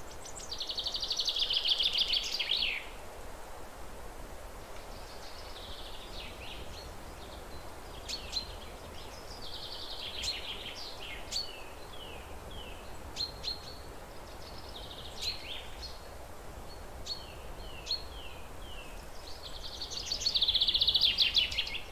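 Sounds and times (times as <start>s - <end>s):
faint background hiss: 0.0s - 21.9s.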